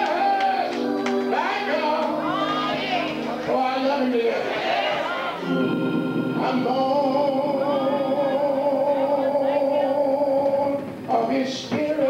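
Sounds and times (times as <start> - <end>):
man singing gospel: 0.0 - 4.5, 6.3 - 12.0.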